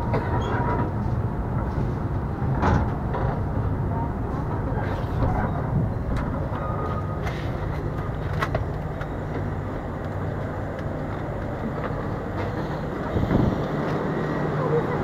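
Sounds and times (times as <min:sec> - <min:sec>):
train coach rumble and hum: 0:00.0 - 0:15.0.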